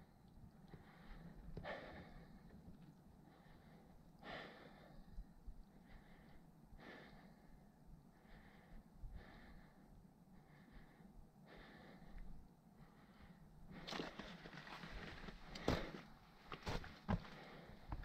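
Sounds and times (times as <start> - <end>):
faint breathing: 0.0 - 18.0.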